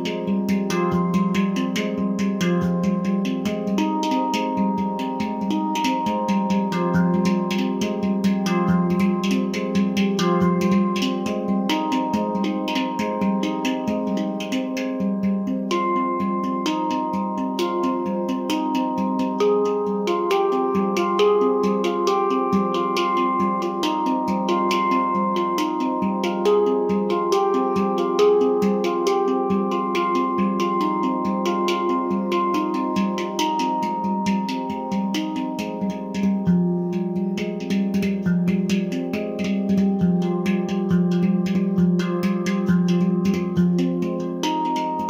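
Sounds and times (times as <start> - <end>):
handpan ringing metal notes: 0.0 - 45.0.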